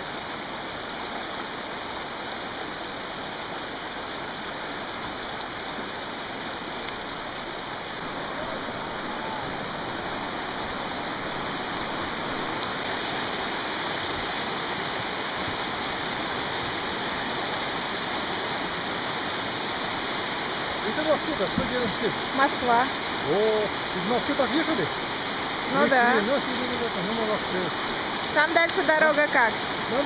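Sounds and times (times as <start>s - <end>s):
river rushing over stones: 0.0s - 30.0s.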